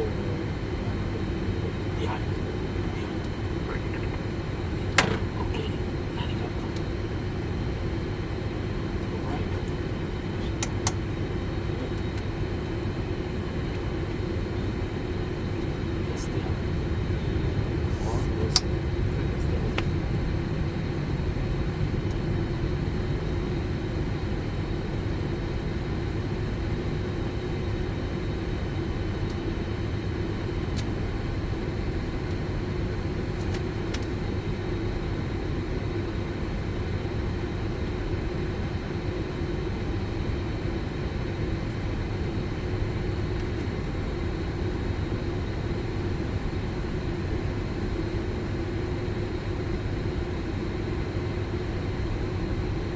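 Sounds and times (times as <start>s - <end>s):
aircraft engines idling: 0.0s - 52.9s
constant droning tone: 0.0s - 52.9s.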